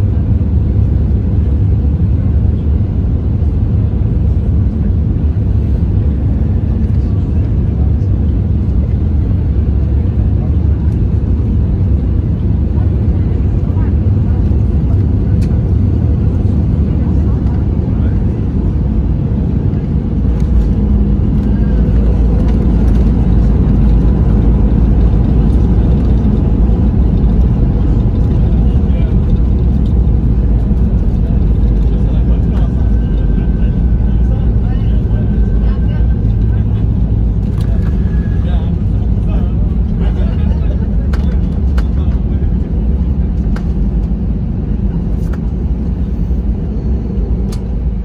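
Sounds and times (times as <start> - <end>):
airplane engines rumbling: 0.0 - 48.0
rushing air in cabin: 0.0 - 48.0.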